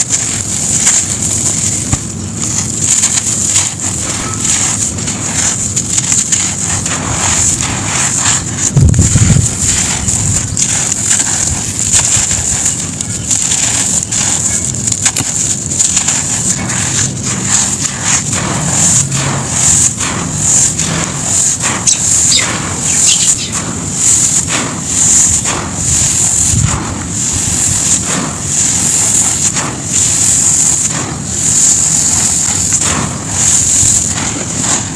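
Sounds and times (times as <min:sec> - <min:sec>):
sand cement clumps crumbling: 0:00.0 - 0:34.9.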